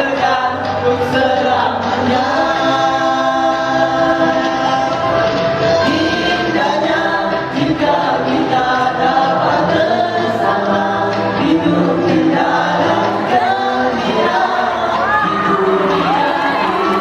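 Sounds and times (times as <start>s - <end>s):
male vocal group singing: 0.0s - 17.0s.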